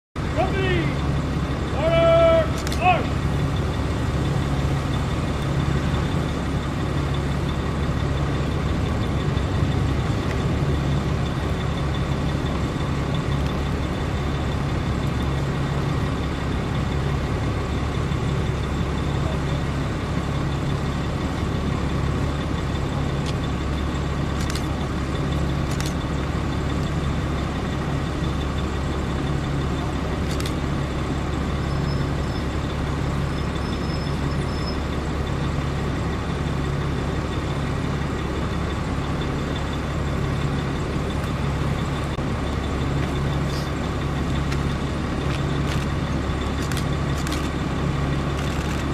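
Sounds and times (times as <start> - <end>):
cars passing slowly: 0.2 - 48.9
large vehicle engine droning: 0.2 - 48.9.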